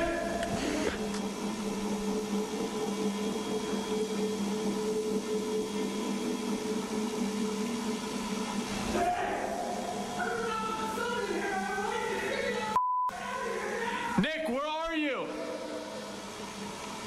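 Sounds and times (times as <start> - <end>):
low two-tone hum: 0.0 - 14.2.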